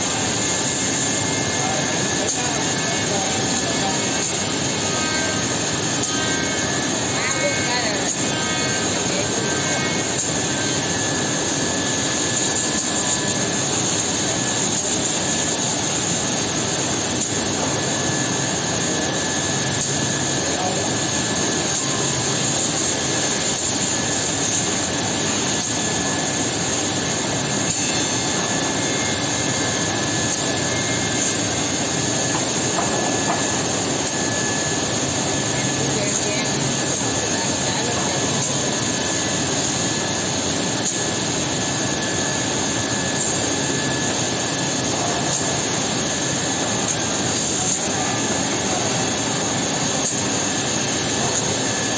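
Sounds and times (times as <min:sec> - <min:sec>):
drilling machine running: 0:00.0 - 0:51.9.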